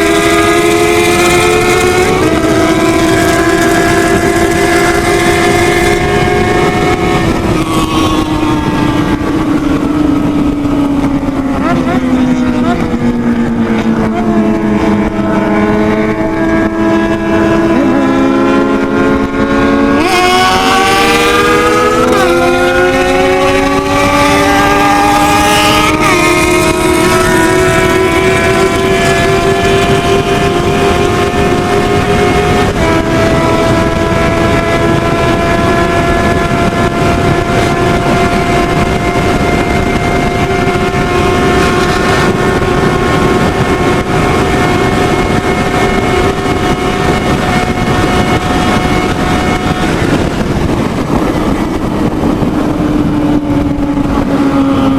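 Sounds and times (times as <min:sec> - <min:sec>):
wind rush hiss: 0:00.0 - 0:11.7, 0:12.9 - 0:54.9
motorcycle engine at high speed: 0:00.0 - 0:54.9.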